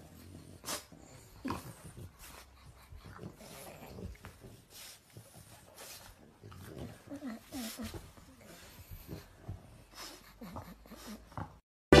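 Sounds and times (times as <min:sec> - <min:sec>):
dog breathing and snuffling: 0:00.0 - 0:11.6.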